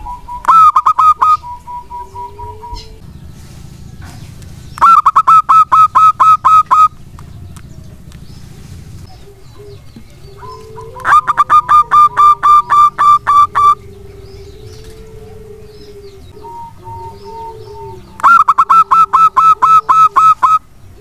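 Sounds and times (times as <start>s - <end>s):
dove singing staccato notes: 0.0s - 21.0s.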